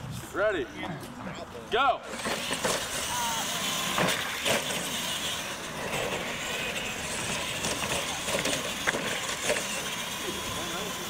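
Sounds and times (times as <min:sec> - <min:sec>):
toy trucks running: 0:01.0 - 0:11.0.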